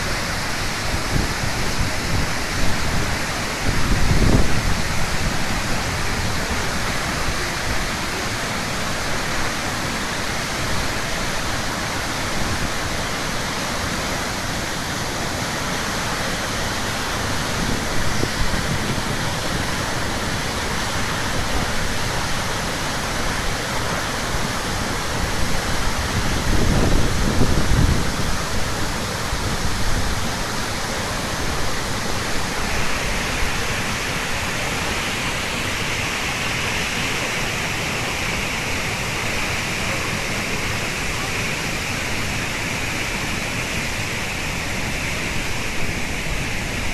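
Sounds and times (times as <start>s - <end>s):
waterfall rushing onto rocks: 0.0s - 46.9s.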